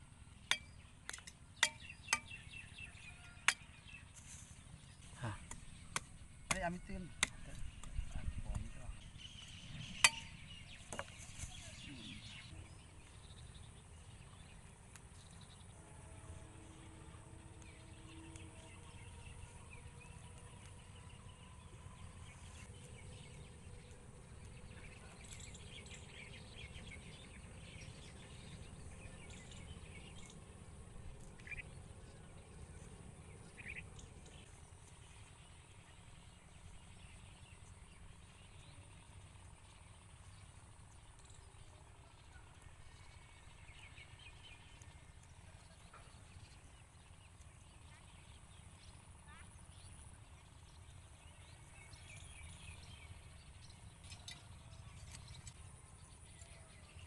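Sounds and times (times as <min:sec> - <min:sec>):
low background rumble: 0:00.0 - 0:57.0
bird chirps: 0:00.3 - 0:57.0.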